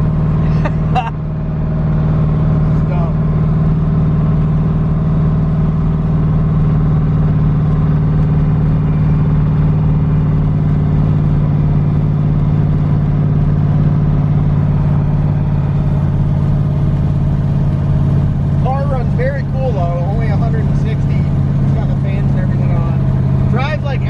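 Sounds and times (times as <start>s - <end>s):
car exhaust droning: 0.0s - 24.0s.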